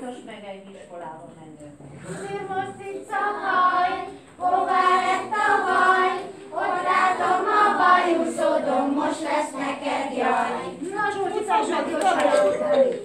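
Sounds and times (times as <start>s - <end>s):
children singing in unison: 2.1s - 13.0s.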